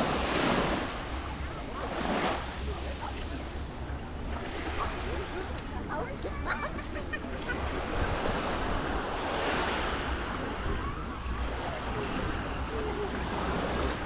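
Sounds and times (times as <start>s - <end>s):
sea surf washing onto beach: 0.0s - 14.0s.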